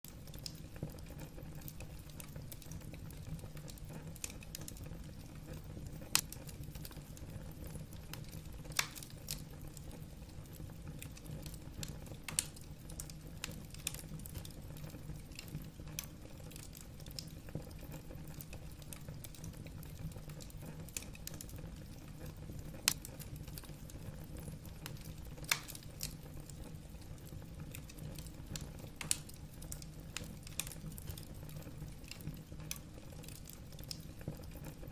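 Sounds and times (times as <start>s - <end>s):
low fire rumble: 0.1s - 34.9s
wood fire crackling: 0.1s - 34.9s.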